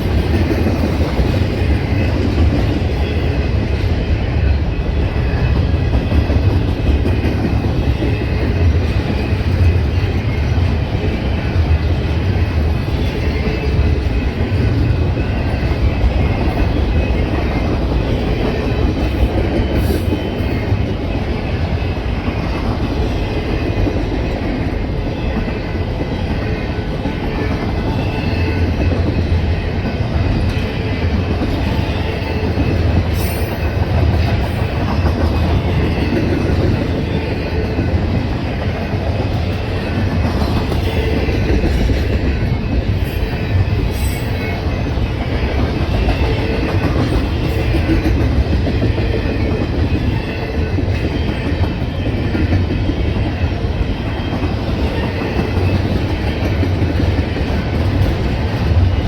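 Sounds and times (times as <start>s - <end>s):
train cars running over rails: 0.0s - 59.0s.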